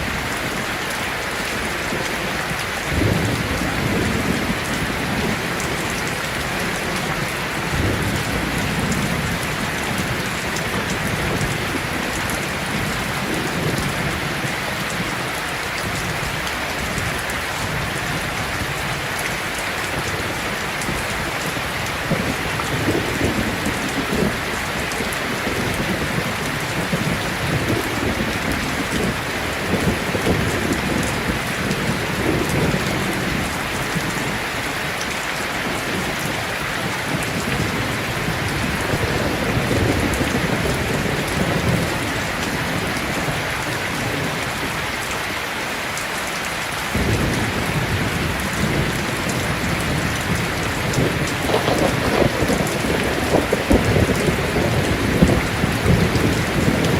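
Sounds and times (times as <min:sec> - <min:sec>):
heavy rain: 0:00.0 - 0:56.9
thunder rumbling: 0:01.4 - 0:34.4, 0:35.6 - 0:44.8, 0:46.9 - 0:56.9.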